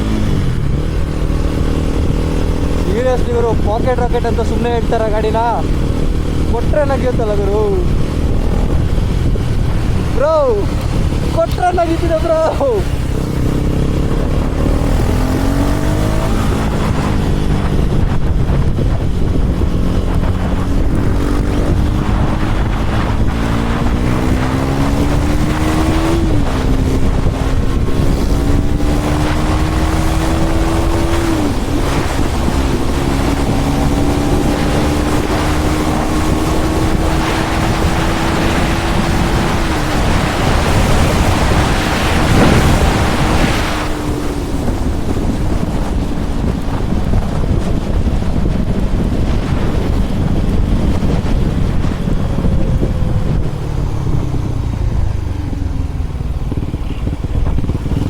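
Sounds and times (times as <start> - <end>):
motorcycle engine accelerating: 0.0 - 58.0
wind buffeting microphone: 0.0 - 58.0.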